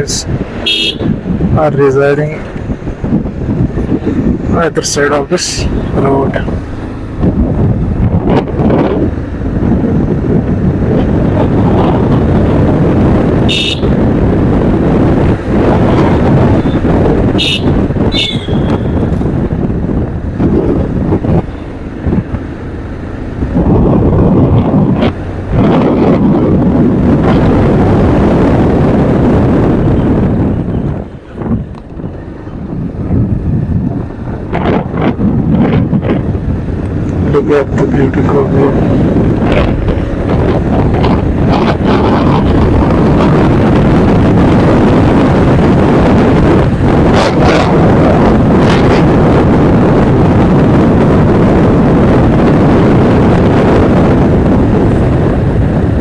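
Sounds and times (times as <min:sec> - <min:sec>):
wind rushing over microphone: 0:00.0 - 0:56.0
motorcycle engine running: 0:05.7 - 0:56.0.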